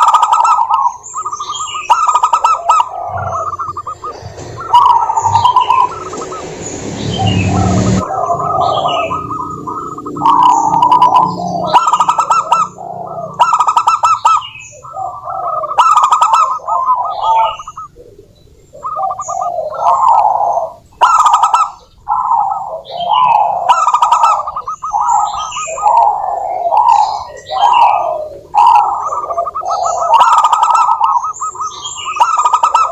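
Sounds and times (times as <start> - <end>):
doves cooing: 0.0 - 32.9.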